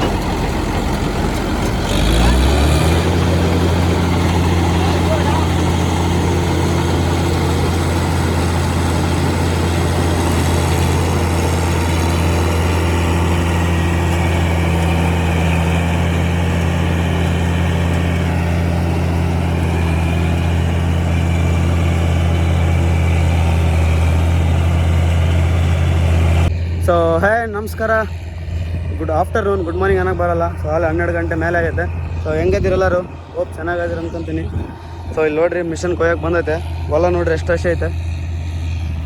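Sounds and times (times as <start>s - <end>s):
vehicle engine droning: 0.0s - 39.0s.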